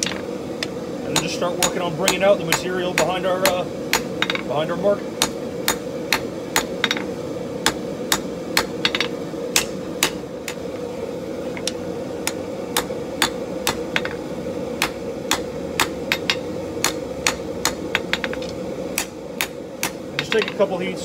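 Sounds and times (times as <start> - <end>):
steady hum: 0.0 - 21.0
hammer striking hot metal: 1.1 - 4.5, 5.2 - 10.6, 11.6 - 14.2, 14.8 - 20.7.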